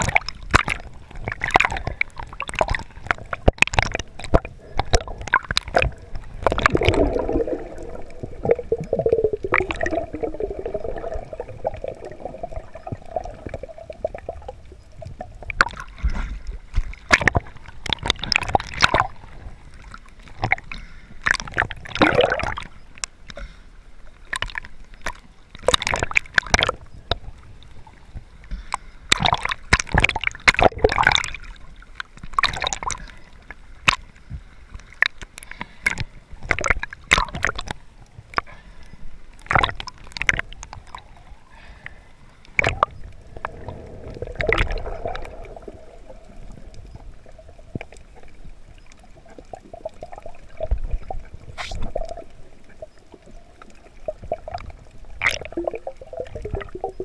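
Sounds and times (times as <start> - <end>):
splashes and bubble pops: 0.0 - 22.7, 24.3 - 27.2, 29.1 - 31.6, 32.2 - 33.1, 35.8 - 38.5, 39.4 - 41.1, 42.5 - 57.0
water sloshing and gurgling: 0.0 - 57.0.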